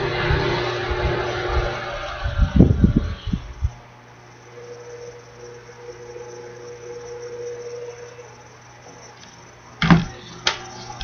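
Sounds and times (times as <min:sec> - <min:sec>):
faint humming tone: 0:00.0 - 0:11.0
low hum and hiss: 0:00.0 - 0:11.0.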